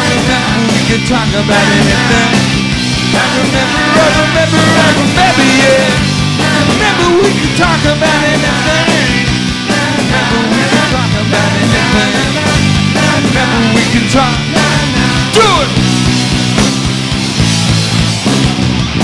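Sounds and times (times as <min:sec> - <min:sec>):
man singing lead vocal: 0:00.0 - 0:15.9
distorted electric guitars: 0:00.0 - 0:19.0
drum kit beat: 0:00.0 - 0:19.0.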